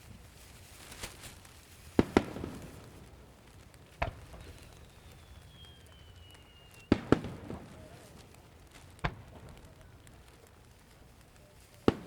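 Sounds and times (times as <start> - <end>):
firework crackling: 0.0 - 12.0
firework shells bursting: 0.0 - 12.0.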